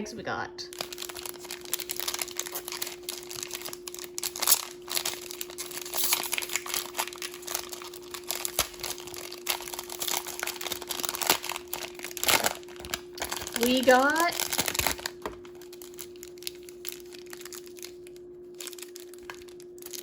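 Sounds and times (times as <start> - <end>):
faint steady hum: 0.0 - 20.0
packaging crinkling and rustling: 0.7 - 20.0.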